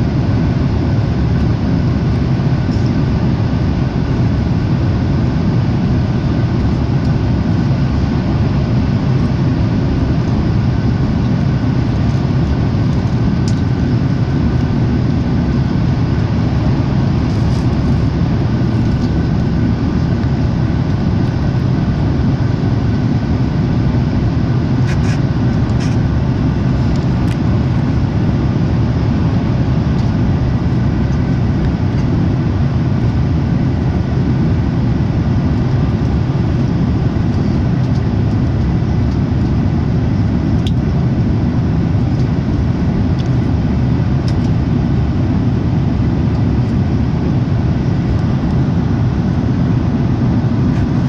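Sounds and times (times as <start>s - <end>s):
faint steady whine: 0.0s - 51.0s
jet engines rumbling: 0.0s - 51.0s.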